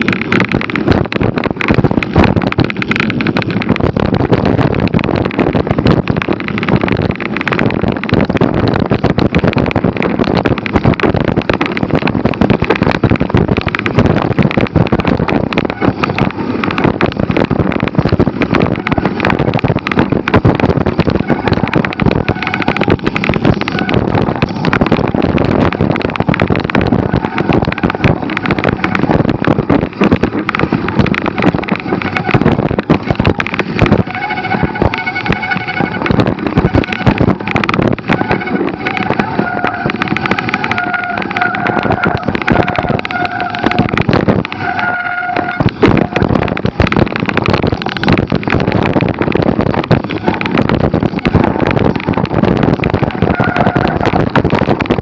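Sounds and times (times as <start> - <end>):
bike clattering over dirt trail: 0.0 - 55.0
wind noise on microphone: 0.0 - 55.0.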